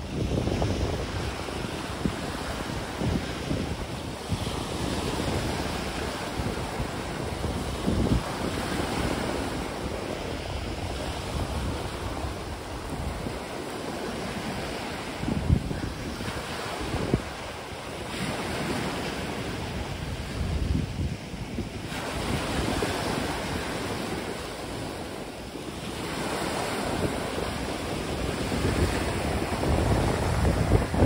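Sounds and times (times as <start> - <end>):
low wind buffets: 0.0 - 31.0
wind on microphone: 0.0 - 31.0.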